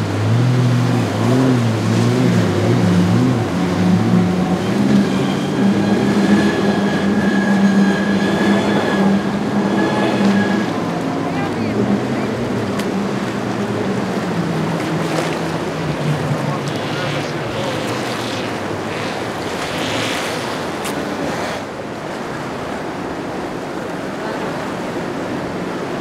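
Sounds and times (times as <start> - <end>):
boat engine droning low: 0.0 - 26.0
surf and waves: 0.0 - 26.0.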